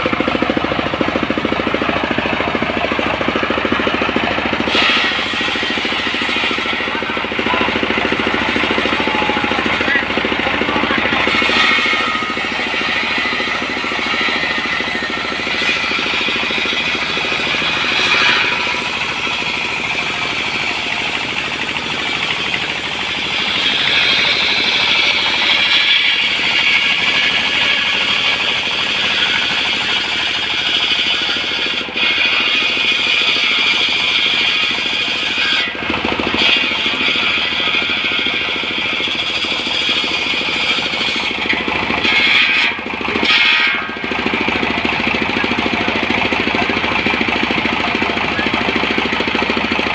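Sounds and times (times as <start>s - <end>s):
portable sawmill sawing timber: 0.0s - 49.9s.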